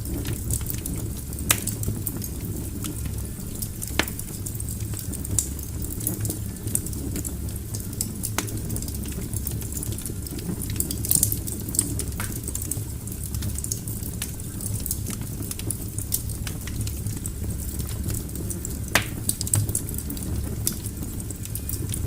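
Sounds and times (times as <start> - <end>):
crackles and pops of burning logs: 0.0 - 22.0
fire roaring in fireplace: 0.0 - 22.0.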